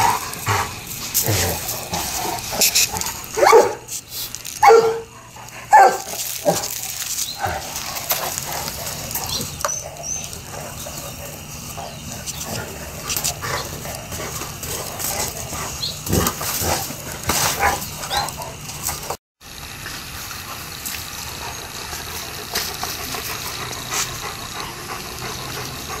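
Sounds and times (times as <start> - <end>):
dogs barking and yipping: 0.0 - 19.2, 21.3 - 26.0
small sharp noises: 0.0 - 26.0.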